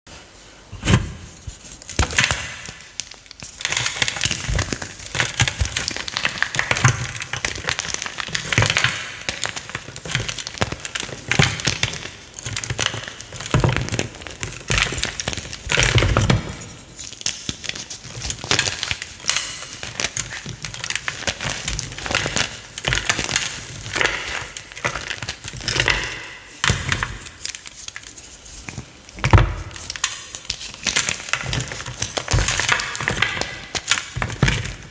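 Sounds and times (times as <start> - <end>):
chalk crunching and crumbling: 1.3 - 34.9.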